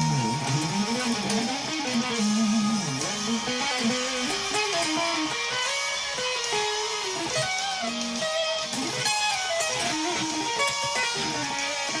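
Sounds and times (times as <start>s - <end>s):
electric guitar riff: 0.0s - 12.0s.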